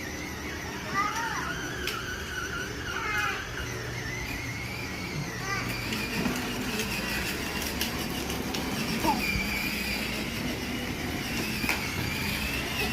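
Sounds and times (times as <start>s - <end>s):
motorcycle engine running: 0.0s - 2.9s, 3.5s - 12.9s.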